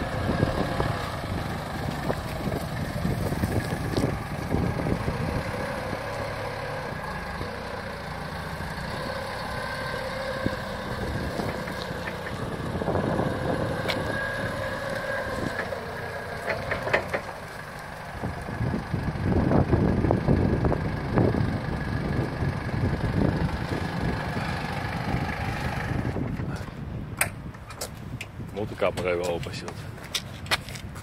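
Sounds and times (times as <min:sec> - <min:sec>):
forklift diesel engine running: 0:00.0 - 0:27.0.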